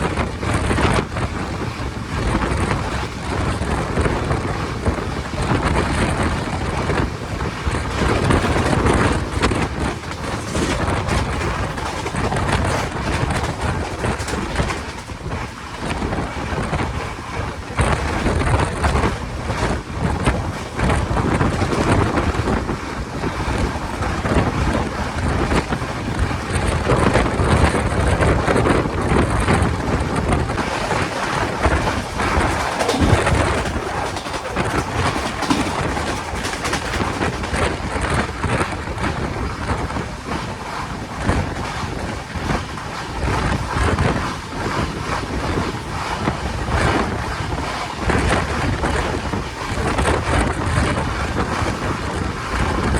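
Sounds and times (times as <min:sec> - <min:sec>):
train wheel and rail noise: 0:00.0 - 0:52.9
wind buffeting on microphone: 0:00.0 - 0:52.9.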